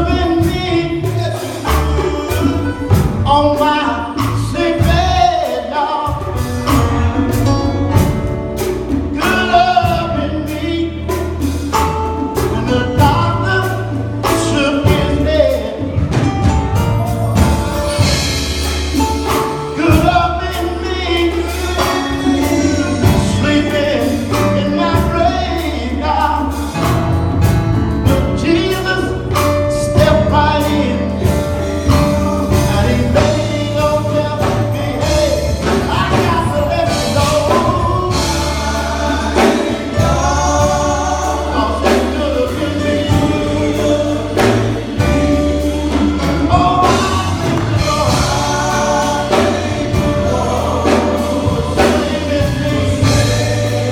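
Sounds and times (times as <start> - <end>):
bass: 0.0 - 53.9
drums: 0.0 - 53.9
gospel choir singing: 0.0 - 53.9
keyboards: 0.0 - 53.9.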